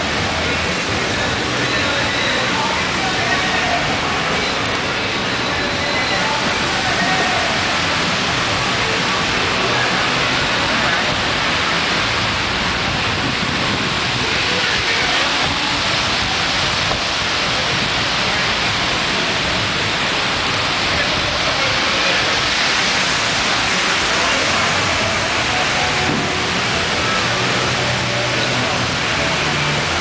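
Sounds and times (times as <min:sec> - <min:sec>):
indistinct voices: 0:00.0 - 0:30.0
loud rushing noise: 0:00.0 - 0:30.0.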